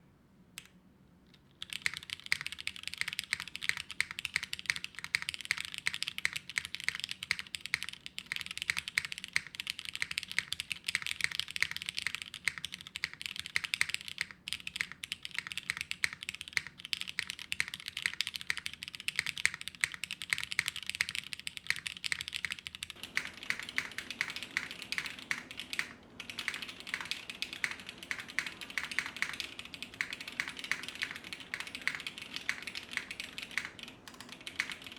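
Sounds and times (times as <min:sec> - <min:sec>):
fast mechanical keyboard typing: 0:01.6 - 0:34.9.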